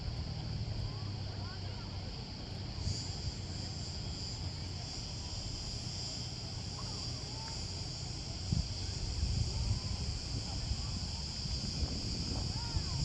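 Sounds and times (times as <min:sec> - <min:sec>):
high insect chorus: 0:00.0 - 0:13.0.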